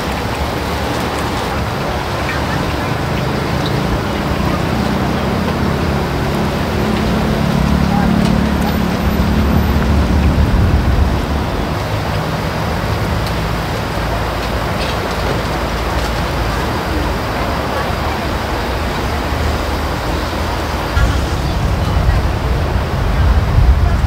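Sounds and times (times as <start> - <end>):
low vehicle rumble: 0.0 - 24.0
street noise: 0.0 - 24.0
voices: 0.0 - 24.0.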